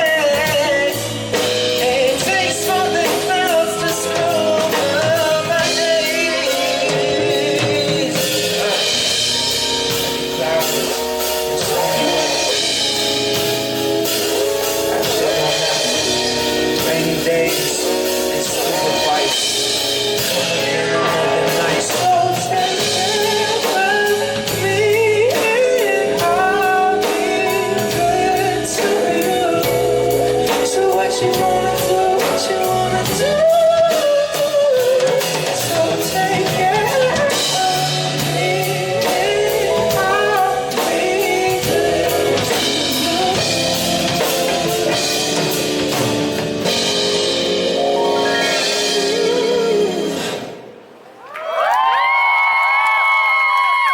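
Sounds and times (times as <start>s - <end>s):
man singing: 0.0s - 50.6s
drum kit: 0.0s - 51.2s.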